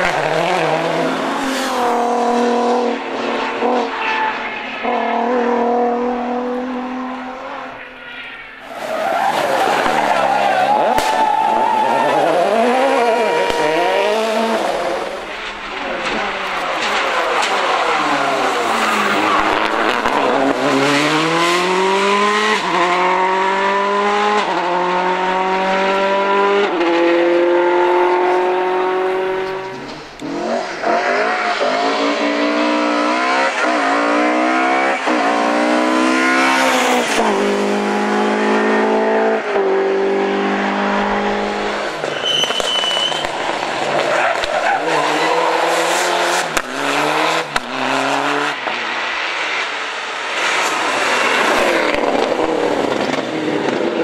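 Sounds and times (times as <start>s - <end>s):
rally car engine accelerating: 0.0s - 4.0s, 4.8s - 7.8s, 8.8s - 42.1s, 43.1s - 54.0s.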